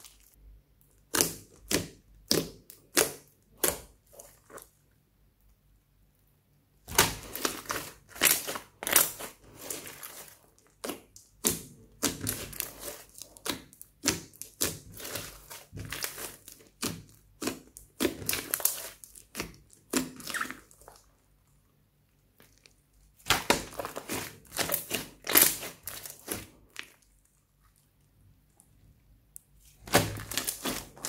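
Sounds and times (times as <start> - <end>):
hands squelching slime: 0.0 - 5.0, 6.8 - 31.0.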